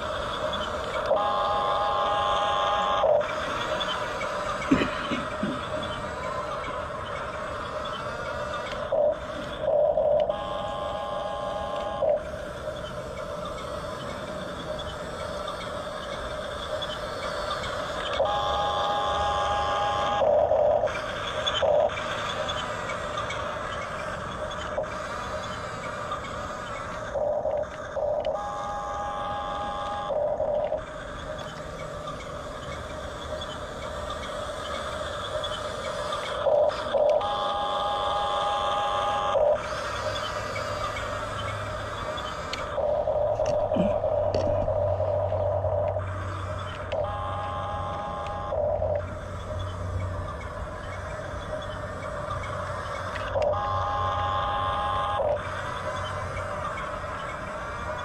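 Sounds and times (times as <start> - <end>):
continuous mechanical hum: 0.0 - 58.0
toy gear motors whining: 0.0 - 58.0.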